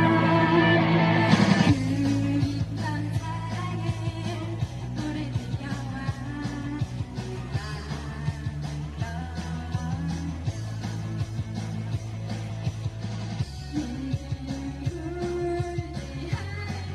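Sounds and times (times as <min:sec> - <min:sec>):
upbeat band music: 0:00.0 - 0:16.9.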